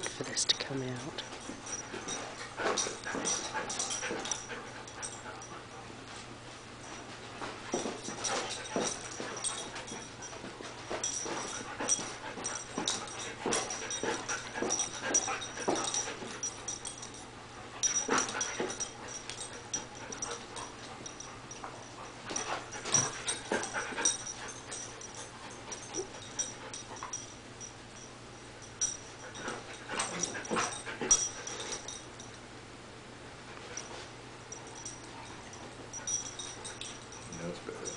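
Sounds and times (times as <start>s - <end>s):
dog play noises: 0.0s - 32.5s, 33.3s - 37.9s.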